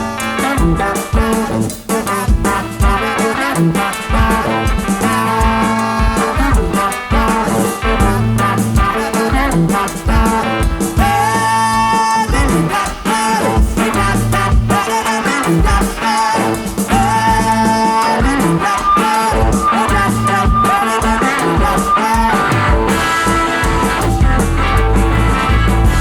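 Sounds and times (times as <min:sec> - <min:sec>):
upbeat music with beat: 0:00.0 - 0:26.0.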